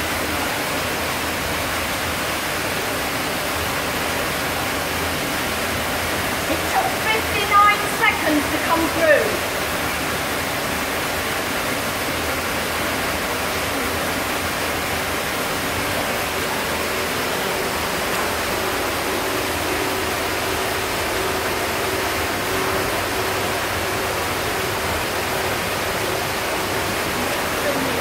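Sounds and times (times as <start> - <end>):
water rushing into tank: 0.0 - 28.0.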